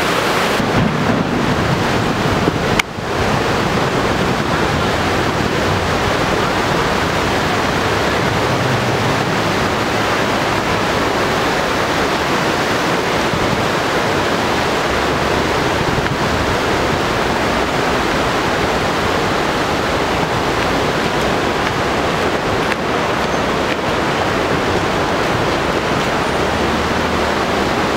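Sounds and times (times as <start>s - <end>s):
river rushing over rocks: 0.0s - 27.9s.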